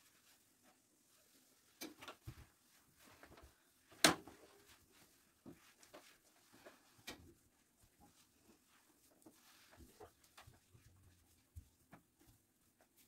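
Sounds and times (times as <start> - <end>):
soft rubbing and handling: 0.0 - 13.0.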